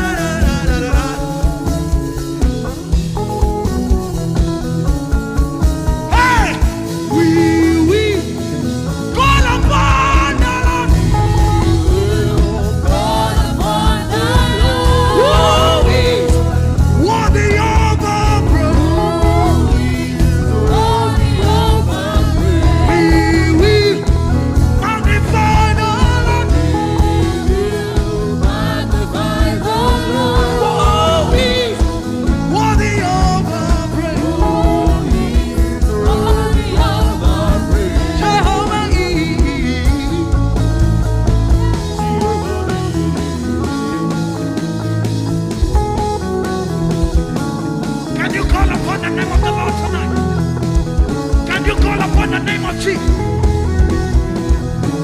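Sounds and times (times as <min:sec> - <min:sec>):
gospel band playing: 0:00.0 - 0:55.0.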